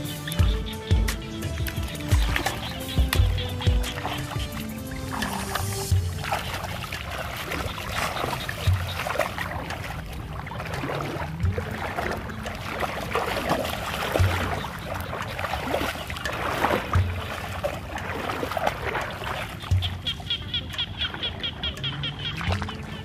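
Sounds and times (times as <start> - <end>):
wading through muddy water: 0.0 - 23.0.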